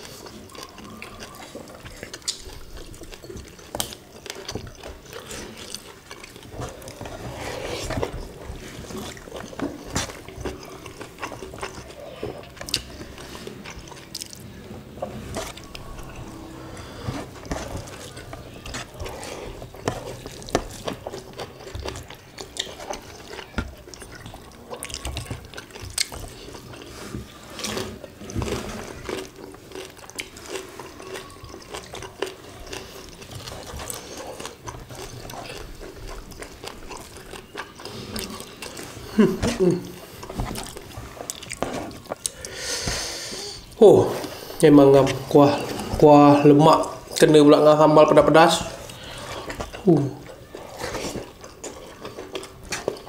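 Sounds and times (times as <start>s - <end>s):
wet chewing and lip smacks: 0.0s - 7.2s, 8.0s - 16.4s, 17.4s - 26.9s, 29.0s - 42.8s, 48.7s - 53.0s.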